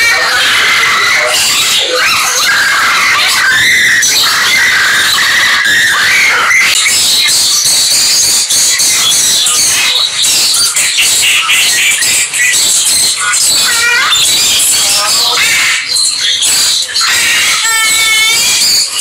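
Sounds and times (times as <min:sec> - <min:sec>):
many birds calling: 0:00.0 - 0:19.0.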